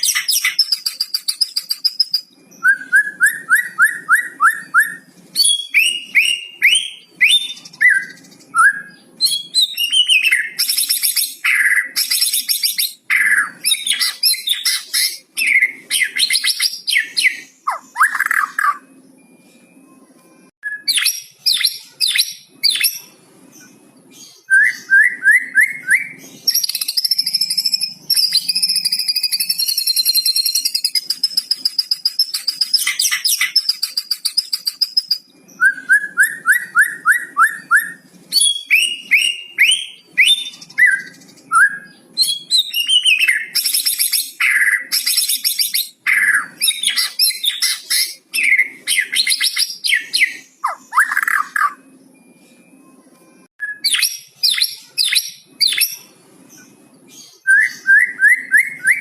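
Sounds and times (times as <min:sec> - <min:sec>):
songbird singing varied song: 0:00.0 - 0:19.3, 0:20.6 - 0:52.8, 0:53.6 - 0:59.0.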